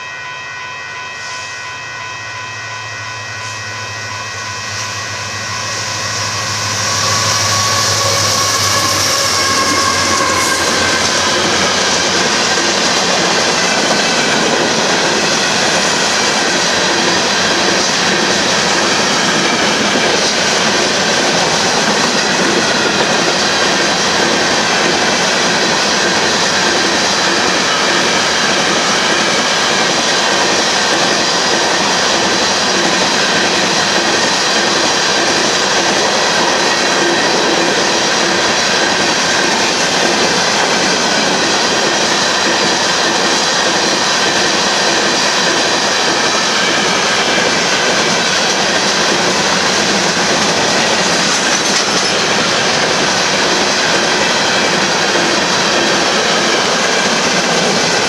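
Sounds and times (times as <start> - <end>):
diesel locomotives passing: 0.0 - 58.0
train wheels clickety-clack: 5.7 - 58.0.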